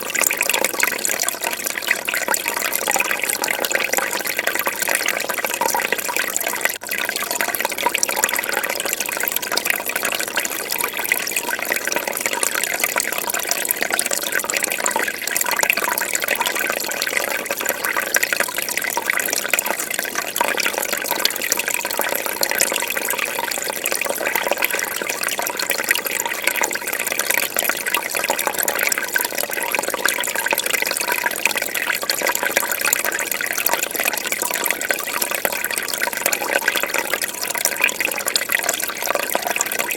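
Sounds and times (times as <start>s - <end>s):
fish tank water bubbling: 0.0s - 39.9s.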